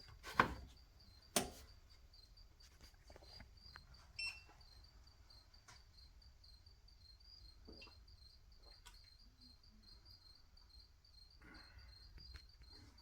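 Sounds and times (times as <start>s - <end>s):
crickets chirping: 0.6s - 13.0s.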